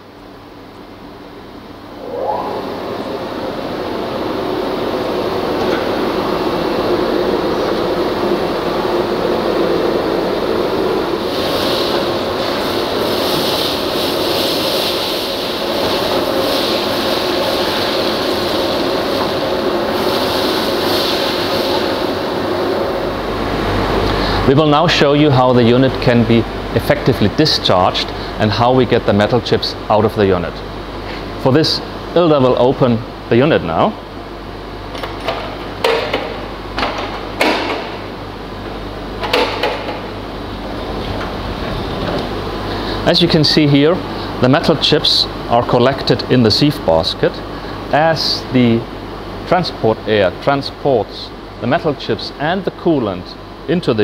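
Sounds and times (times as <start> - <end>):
low machine hum: 0.0 - 54.0
industrial vacuum running: 0.2 - 54.0.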